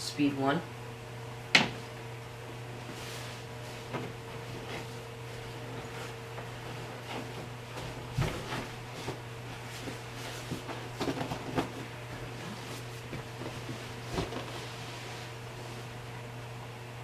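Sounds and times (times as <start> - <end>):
kitchen exhaust fan humming: 0.0 - 17.0.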